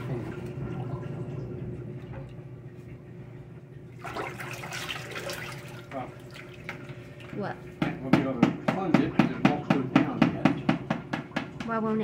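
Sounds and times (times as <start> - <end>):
plunger sloshing water in sink: 0.0 - 11.7.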